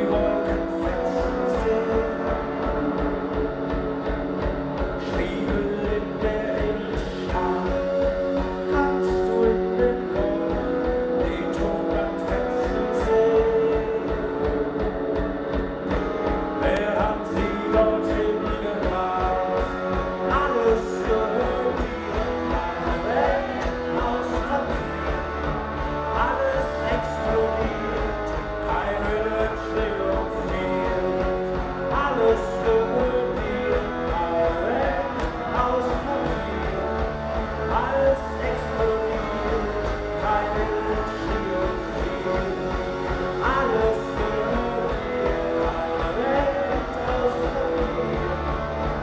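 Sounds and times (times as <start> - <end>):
man singing: 0.0 - 3.8, 4.8 - 49.0
drums: 0.0 - 49.0
electric guitars: 0.0 - 49.0.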